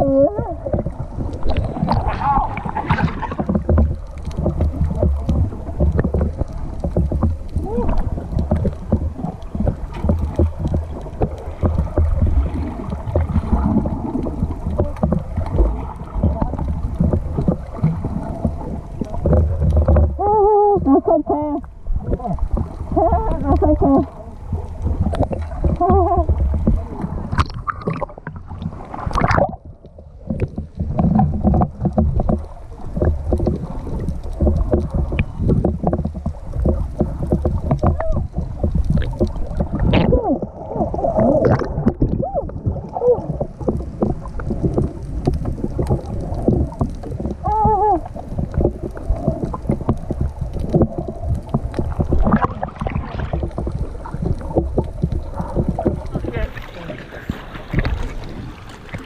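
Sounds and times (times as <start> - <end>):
bubbly clicks and pops: 0.0 - 56.6
muffled underwater rushing water: 0.0 - 59.0.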